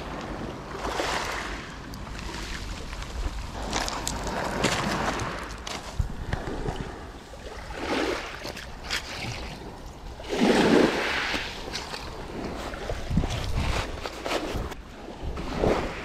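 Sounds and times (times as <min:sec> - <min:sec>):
waves washing over shingle: 0:00.0 - 0:16.0
wind rumbling on microphone: 0:00.0 - 0:16.0.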